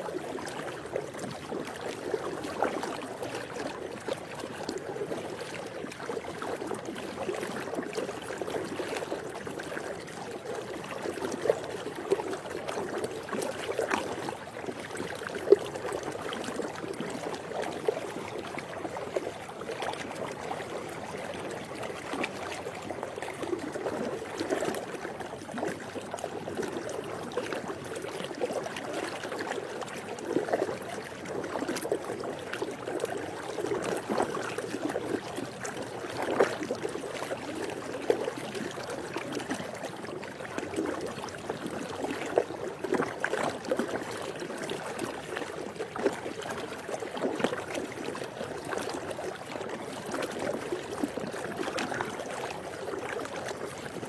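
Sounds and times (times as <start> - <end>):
pool water lapping: 0.0 - 54.0
water splashes: 0.0 - 54.0.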